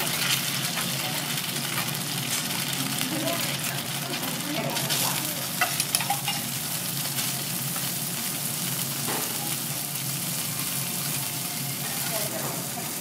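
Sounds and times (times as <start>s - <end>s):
vegetables sizzling on a griddle: 0.0s - 13.0s.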